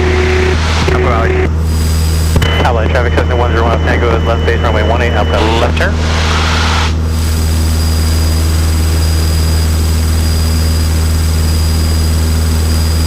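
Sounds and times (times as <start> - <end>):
airplane engine and propeller droning: 0.0 - 13.0.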